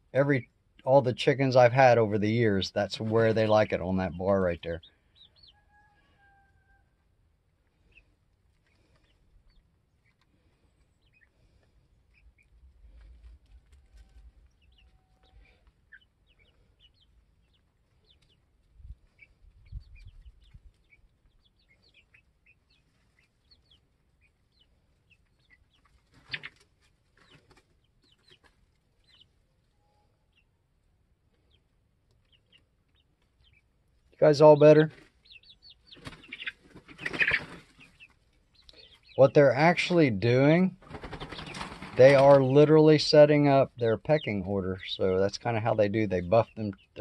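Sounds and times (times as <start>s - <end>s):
chicks peeping and clucking: 0.0s - 47.0s.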